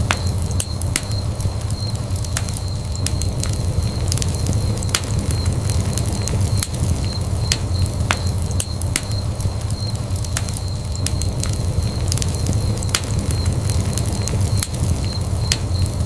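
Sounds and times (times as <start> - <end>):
burning wood crackling and popping: 0.0 - 16.0
fire flames rumbling: 0.0 - 16.0.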